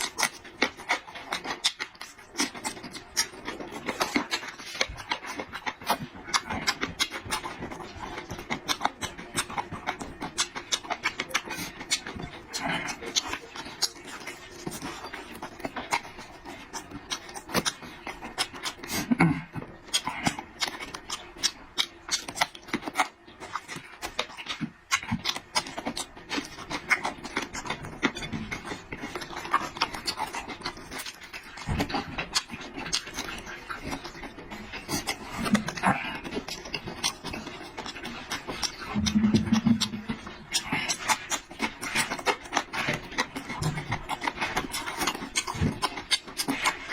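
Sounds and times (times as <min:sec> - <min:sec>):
person chewing wetly: 0:00.0 - 0:46.9.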